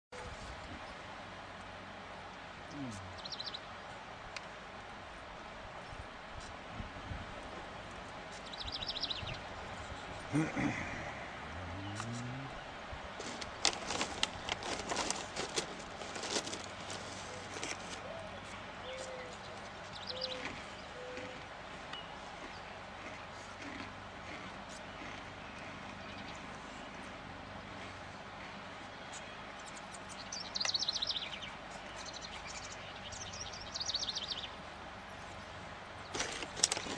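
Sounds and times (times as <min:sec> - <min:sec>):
songbird chirping: 0:02.6 - 0:04.0, 0:07.6 - 0:10.2, 0:10.9 - 0:36.9.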